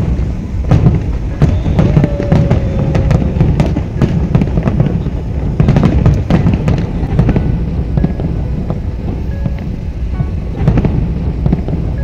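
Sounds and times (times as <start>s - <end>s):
continuous low rumble: 0.0s - 12.0s
fireworks bangs and crackles: 0.0s - 12.0s.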